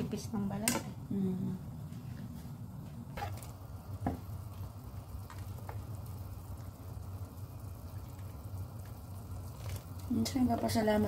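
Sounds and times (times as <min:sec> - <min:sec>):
water boiling: 0:00.0 - 0:11.0.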